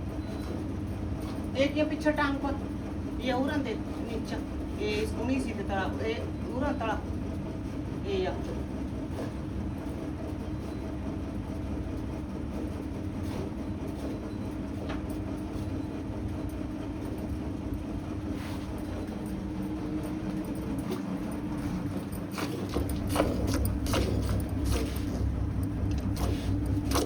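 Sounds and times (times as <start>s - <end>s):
low mechanical hum and rumble: 0.0s - 27.0s.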